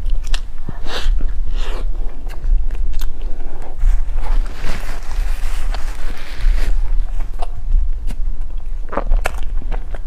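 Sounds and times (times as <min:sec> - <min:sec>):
chewing soft bread: 0:00.0 - 0:10.0
low rumble: 0:00.0 - 0:10.0.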